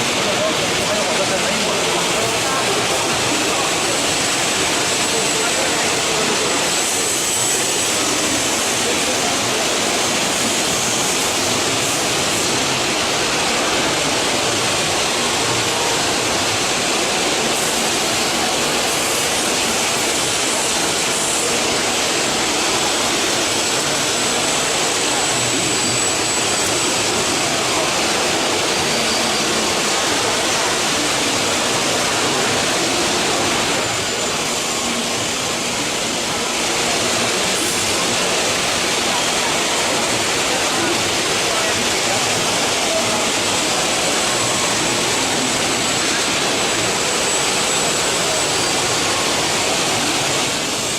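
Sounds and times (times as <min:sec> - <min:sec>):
machine rushing hiss with whine: 0:00.0 - 0:50.9.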